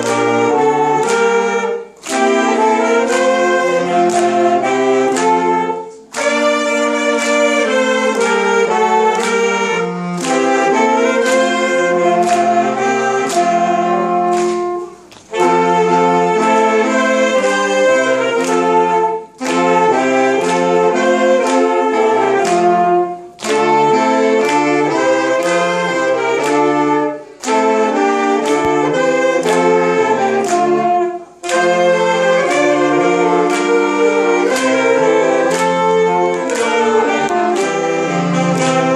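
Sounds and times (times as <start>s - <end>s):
saxophone ensemble playing carols: 0.0s - 38.9s.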